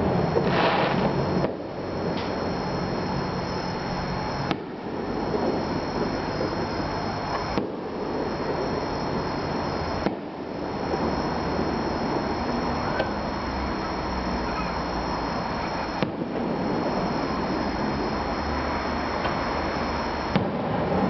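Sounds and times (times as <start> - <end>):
distant firework bangs: 0.0 - 21.0
steady rushing background noise: 0.0 - 21.0.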